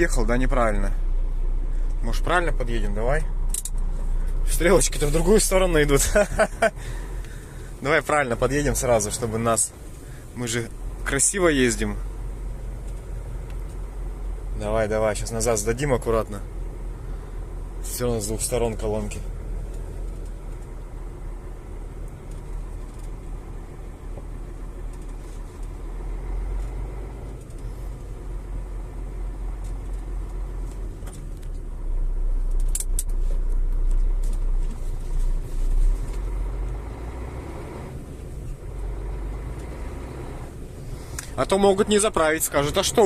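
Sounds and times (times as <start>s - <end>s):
truck engine low rumble: 0.0s - 43.0s.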